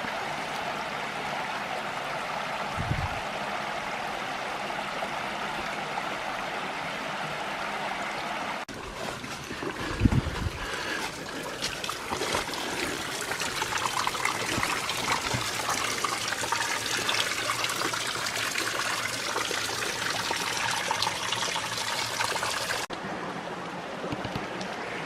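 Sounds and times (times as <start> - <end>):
creek water splashing over waterfall: 0.0 - 22.9.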